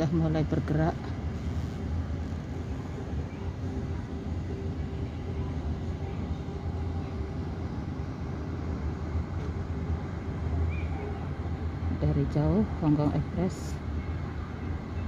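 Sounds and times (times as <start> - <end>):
low rumble of terminal ambience: 0.0 - 15.0.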